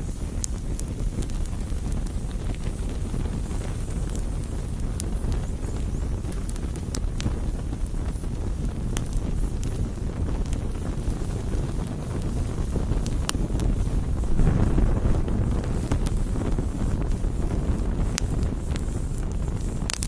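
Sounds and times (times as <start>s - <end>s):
campfire rumble: 0.0s - 20.0s
wood crackling and popping: 0.0s - 20.0s.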